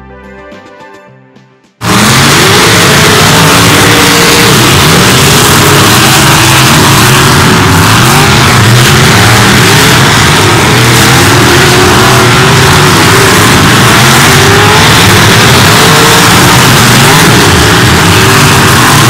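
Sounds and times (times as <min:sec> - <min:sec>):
racing car engines revving: 0:01.8 - 0:19.0.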